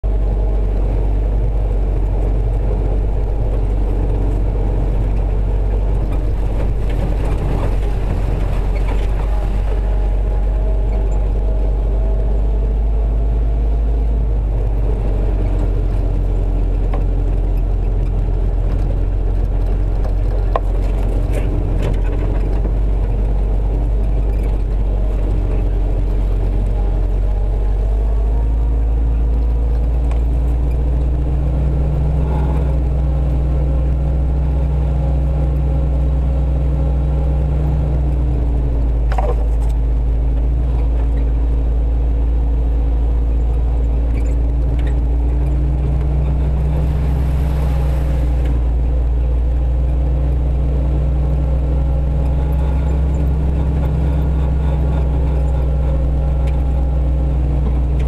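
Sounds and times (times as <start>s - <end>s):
jeep engine running: 0.0s - 58.0s.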